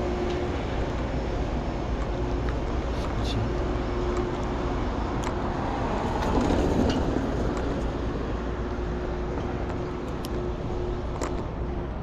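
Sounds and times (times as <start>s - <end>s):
vehicle rumble in motion: 0.0s - 12.0s.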